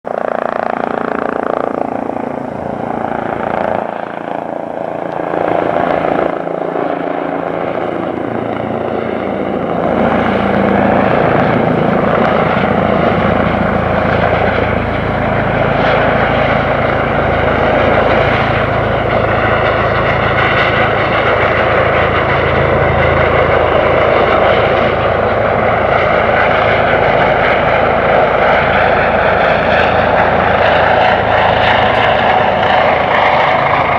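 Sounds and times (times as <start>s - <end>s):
helicopter rotor and turbine noise: 0.0s - 33.9s.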